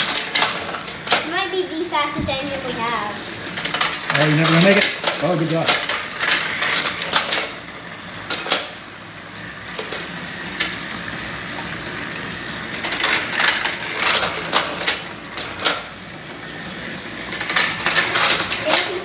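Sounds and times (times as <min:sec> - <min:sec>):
toy train motor whir: 0:00.0 - 0:19.0.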